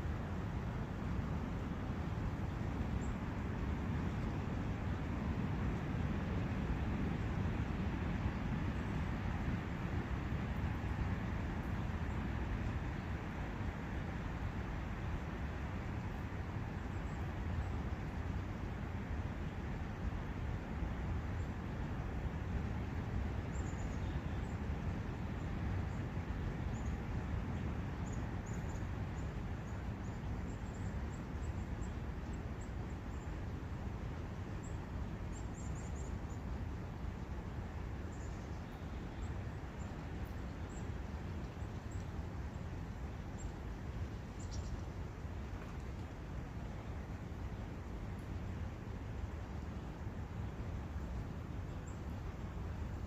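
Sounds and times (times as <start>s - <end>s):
forest brook flowing: 0.0s - 53.0s.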